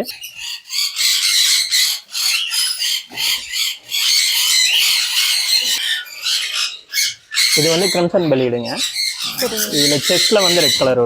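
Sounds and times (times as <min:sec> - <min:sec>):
caged birds squawking: 0:00.0 - 0:11.0.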